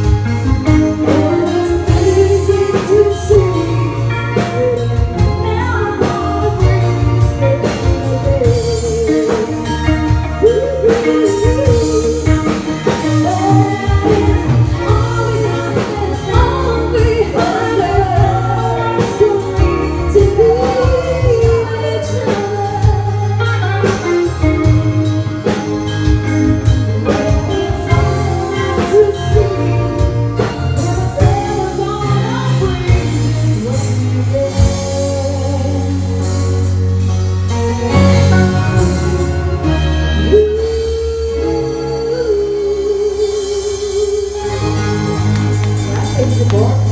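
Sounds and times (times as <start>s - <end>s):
person singing: 0.0s - 37.0s, 37.9s - 46.9s
drum kit beat: 0.0s - 41.9s
bass guitar: 0.0s - 46.9s
electric guitar: 0.0s - 46.9s
keyboard: 0.0s - 46.9s.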